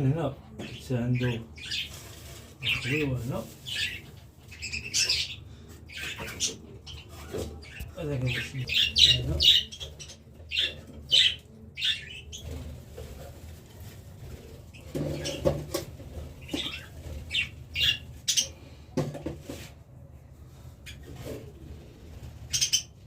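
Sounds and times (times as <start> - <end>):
cage birds chirping: 0.0 - 23.0.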